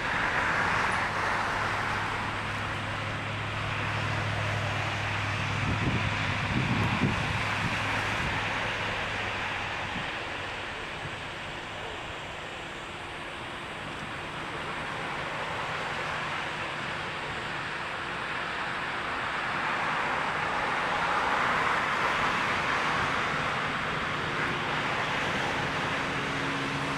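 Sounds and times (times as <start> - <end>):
jet airliner roar: 0.0 - 26.9.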